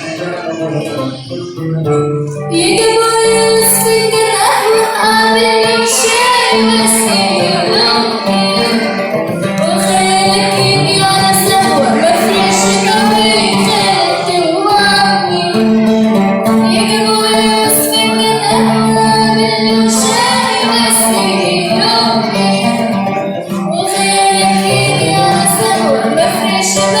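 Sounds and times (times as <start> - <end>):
instrumental accompaniment: 0.0 - 27.0
woman singing: 2.4 - 27.0.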